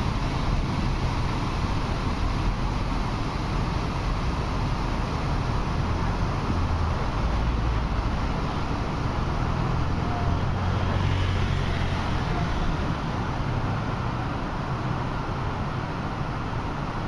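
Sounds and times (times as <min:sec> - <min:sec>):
car engines passing: 0:00.0 - 0:17.0
steady traffic rushing noise: 0:00.0 - 0:17.0.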